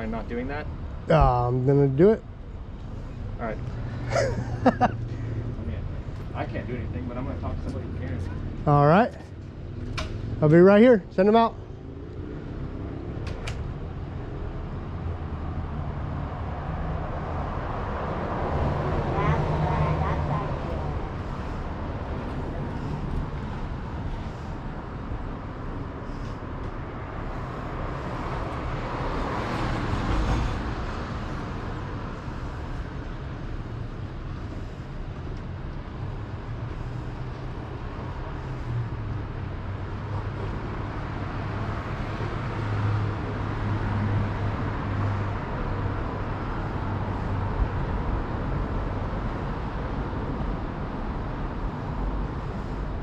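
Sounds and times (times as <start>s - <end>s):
vehicles driving past: 0.0s - 53.0s.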